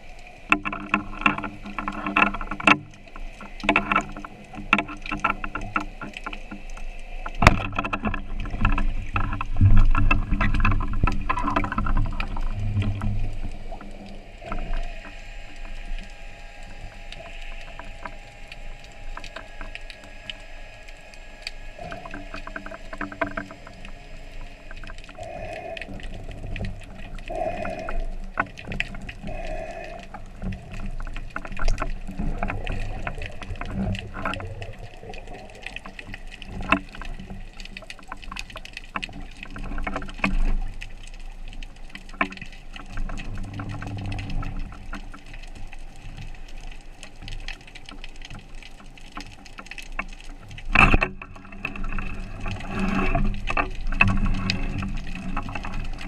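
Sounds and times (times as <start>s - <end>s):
clicks and crackles: 0.0s - 56.0s
underwater water noise: 0.0s - 56.0s.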